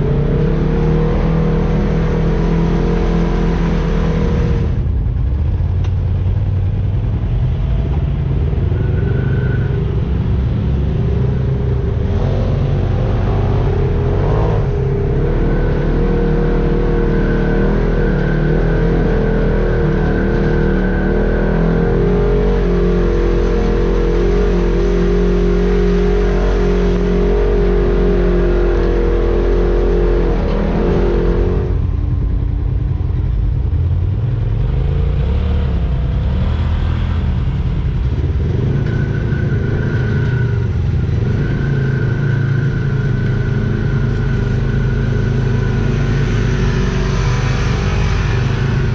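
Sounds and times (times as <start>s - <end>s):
off-road vehicle engine revving: 0.0s - 4.9s, 7.8s - 32.0s, 33.8s - 48.9s.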